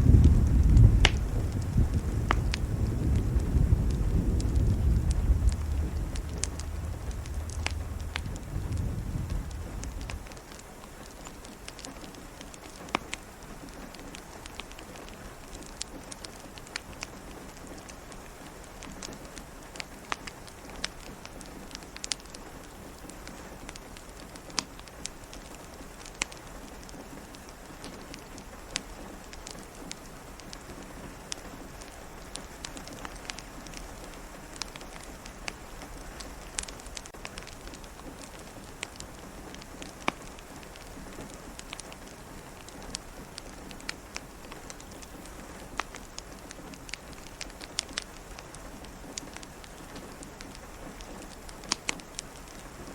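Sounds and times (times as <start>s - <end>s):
steady rain: 0.0s - 52.9s
wood fire crackling: 0.0s - 52.9s.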